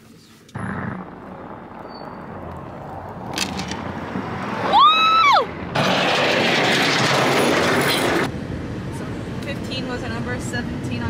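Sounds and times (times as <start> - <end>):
steady rushing noise: 0.5 - 11.0.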